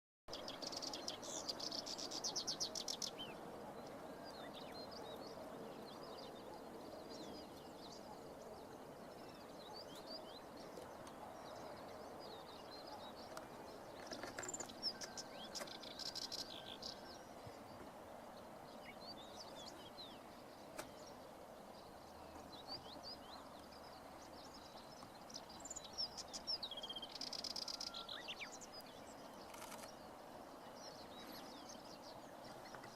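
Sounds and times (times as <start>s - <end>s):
low background noise: 0.3s - 32.9s.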